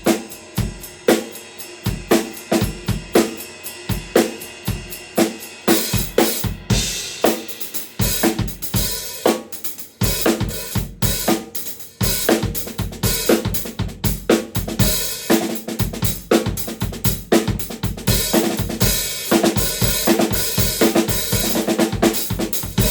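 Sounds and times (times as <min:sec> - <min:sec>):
hi-hat cymbals: 0:00.0 - 0:22.9.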